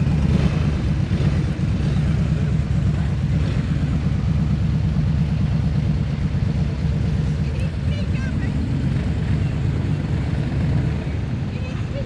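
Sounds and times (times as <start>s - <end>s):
motorcycle engine idling low: 0.0s - 12.0s.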